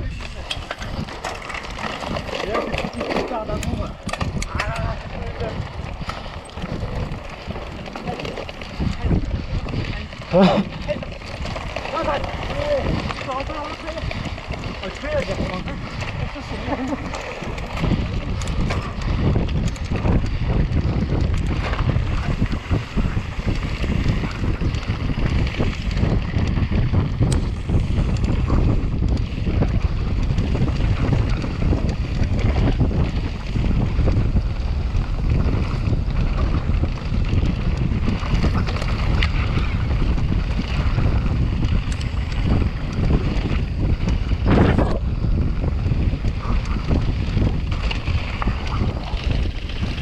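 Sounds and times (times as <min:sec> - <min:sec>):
bike rattling and knocking: 0:00.0 - 0:50.0
tyre noise: 0:00.0 - 0:50.0
wind buffeting microphone: 0:00.0 - 0:50.0.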